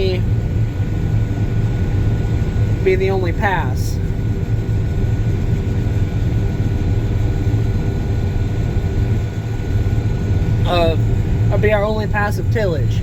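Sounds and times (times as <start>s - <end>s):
combine harvester engine drone: 0.0s - 13.0s
high whine: 0.0s - 13.0s.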